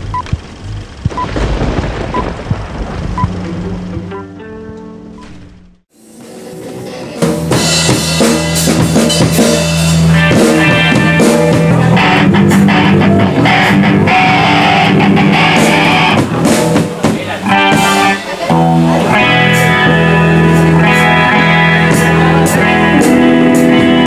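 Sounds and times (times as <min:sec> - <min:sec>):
live rock band playing: 0:03.2 - 0:05.4, 0:06.0 - 0:24.0.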